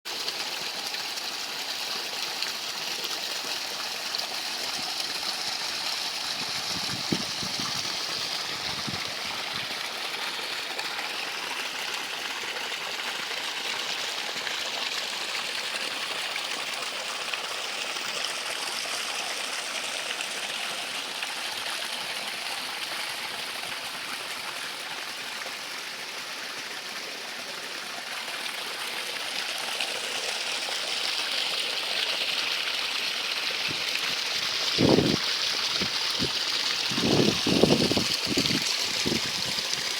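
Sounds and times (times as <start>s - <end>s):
stream water flowing: 0.1s - 39.9s.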